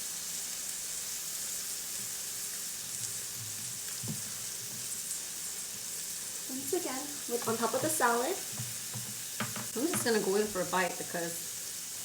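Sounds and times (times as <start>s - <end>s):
meat sizzling on grill pan: 0.0s - 12.0s.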